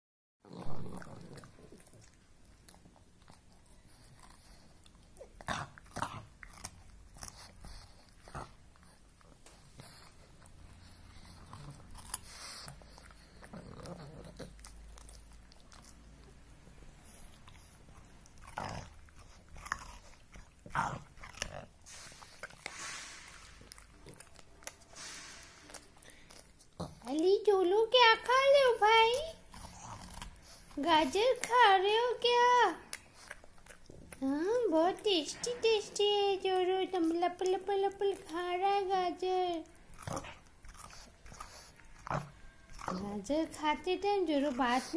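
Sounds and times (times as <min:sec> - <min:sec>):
dog crunching a carrot: 0:00.4 - 0:44.9.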